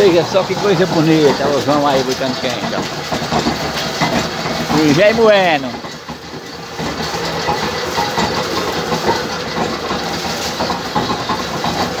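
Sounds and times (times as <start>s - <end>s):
sugarcane mill grinding: 0.0s - 12.0s.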